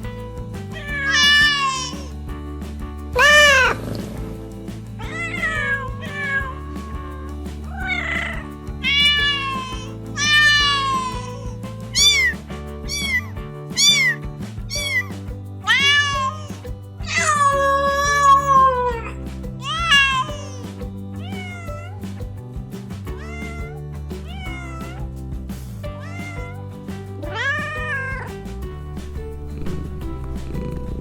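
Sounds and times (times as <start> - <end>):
background music with low notes: 0.0 - 31.0
cats meowing: 0.6 - 2.4, 3.1 - 3.8, 5.0 - 22.1, 23.1 - 28.4.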